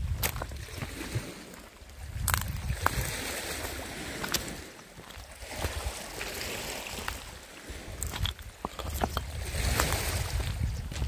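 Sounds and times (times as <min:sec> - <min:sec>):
footsteps on stones: 0:00.0 - 0:11.0
small waves lapping: 0:00.0 - 0:11.0
wind on microphone: 0:00.0 - 0:11.0.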